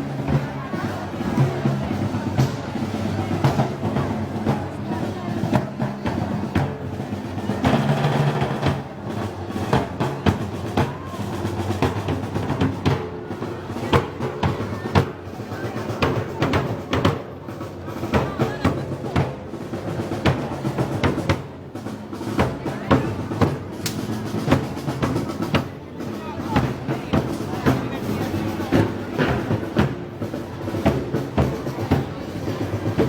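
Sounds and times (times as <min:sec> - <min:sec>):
snare drum rolls: 0:00.0 - 0:33.0.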